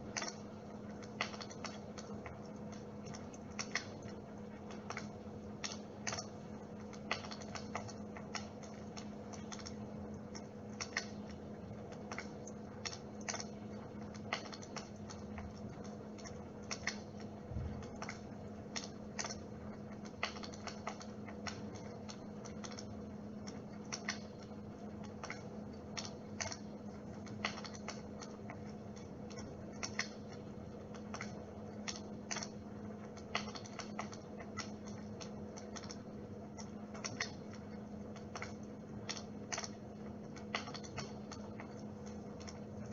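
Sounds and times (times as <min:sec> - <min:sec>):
electric fire humming: 0:00.0 - 0:42.9
sharp crackling clicks: 0:00.1 - 0:42.9.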